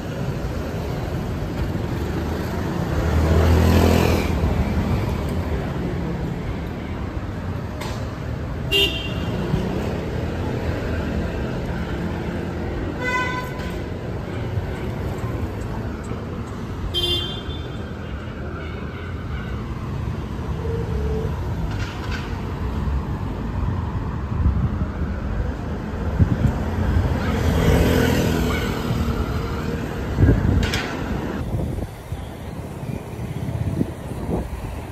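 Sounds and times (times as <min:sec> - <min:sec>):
traffic rumble: 0:00.0 - 0:34.9.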